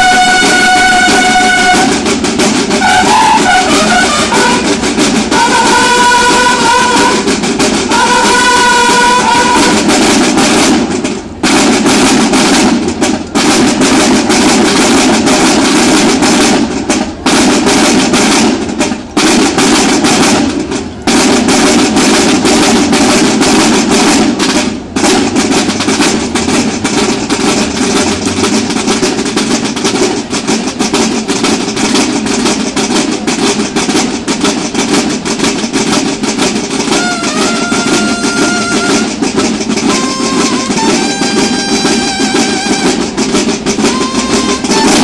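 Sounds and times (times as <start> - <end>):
bugles playing held notes: 0.0 - 11.0, 19.3 - 45.0
snare drum rolls: 0.0 - 45.0.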